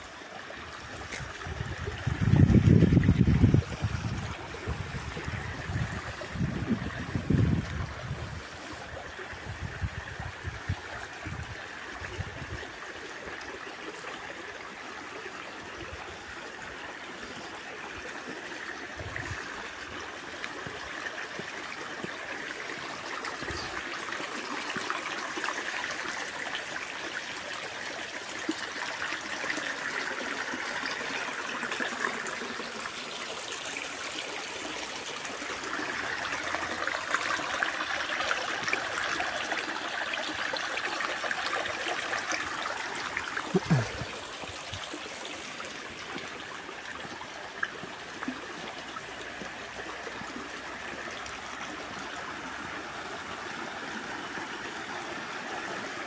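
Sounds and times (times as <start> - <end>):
creek water trickling over rocks: 0.0 - 56.0.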